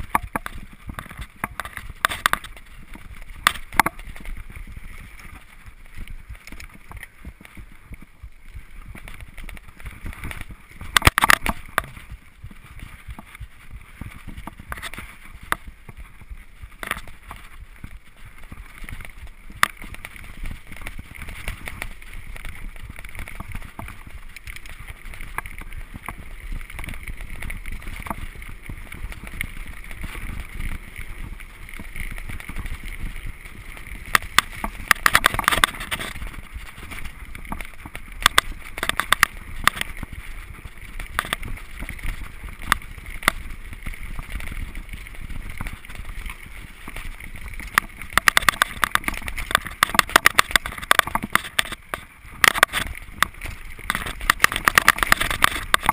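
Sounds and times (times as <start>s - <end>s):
bike clattering over bumps: 0.0s - 55.9s
bike tyres rolling on dirt: 0.0s - 55.9s.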